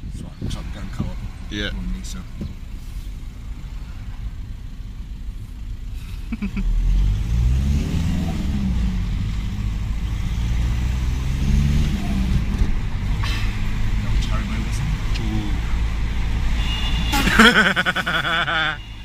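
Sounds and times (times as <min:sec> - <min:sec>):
car engine revving: 0:00.0 - 0:18.9
road noise: 0:00.0 - 0:19.0.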